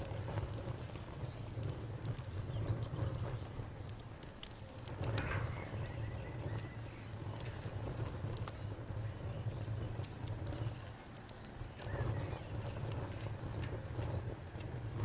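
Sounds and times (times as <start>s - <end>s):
cricket chirping: 0.0s - 15.0s
wood fire crackling and popping: 0.0s - 15.0s.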